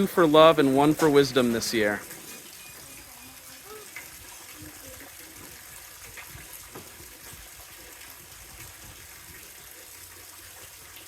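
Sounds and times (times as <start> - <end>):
waterfall splashing: 0.0 - 9.0.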